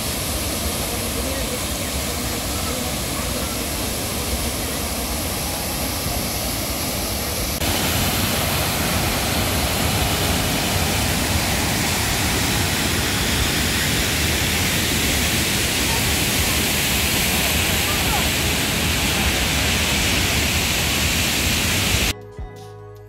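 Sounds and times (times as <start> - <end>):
waterfall rushing over rock: 0.0 - 22.1.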